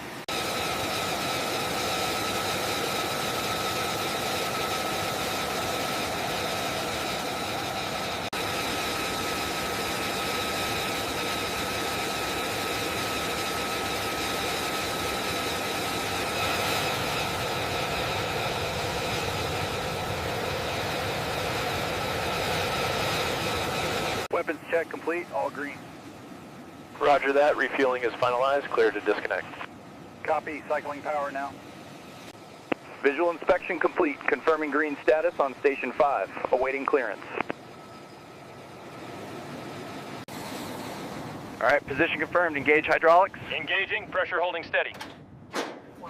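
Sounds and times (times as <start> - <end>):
jet turbine whining: 0.0 - 45.4.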